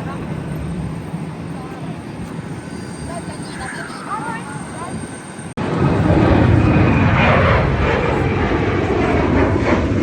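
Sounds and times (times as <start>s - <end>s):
airliner engines roaring: 0.0s - 10.0s.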